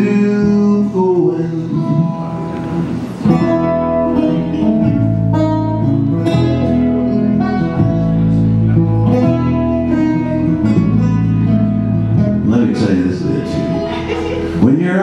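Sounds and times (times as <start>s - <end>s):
plucked double bass: 0.0s - 14.8s
strummed acoustic guitar: 0.0s - 15.0s.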